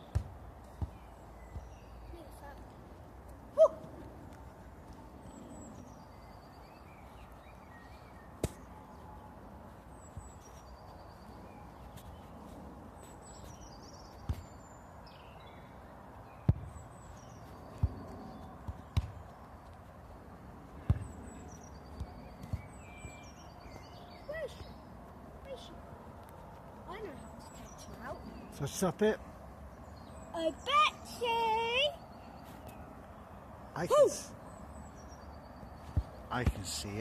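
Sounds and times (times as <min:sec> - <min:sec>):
outdoor background: 0:00.0 - 0:37.0.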